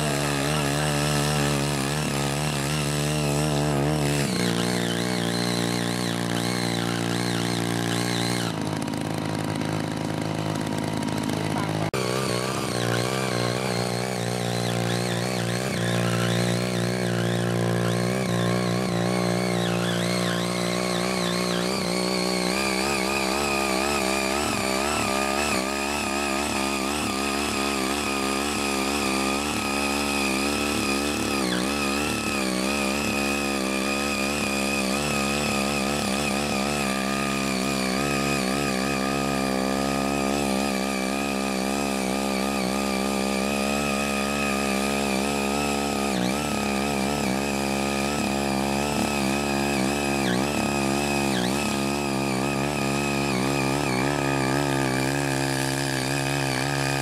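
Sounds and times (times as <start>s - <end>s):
rotary tines tilling soil: 0.0s - 57.0s
small engine running under load: 0.0s - 57.0s.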